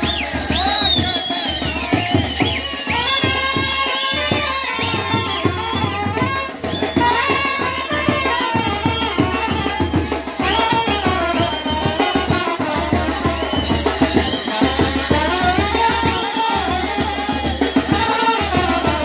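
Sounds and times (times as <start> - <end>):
fast busy drumming: 0.0 - 19.0
horns playing sliding melody: 0.0 - 19.0.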